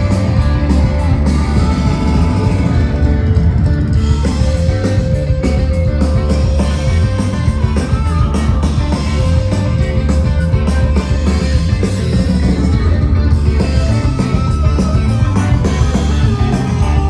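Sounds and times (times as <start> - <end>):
rock band playing loudly: 0.0 - 17.0.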